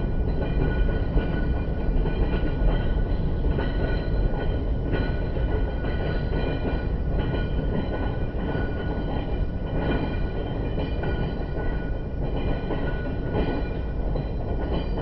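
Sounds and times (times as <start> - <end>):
roller coaster chain rattling: 0.0 - 15.0.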